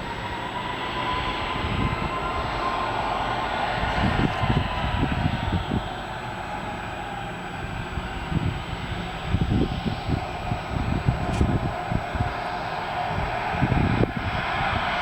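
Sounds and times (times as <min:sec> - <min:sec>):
jet engines running: 0:00.0 - 0:15.0
wind buffeting microphone: 0:00.0 - 0:15.0.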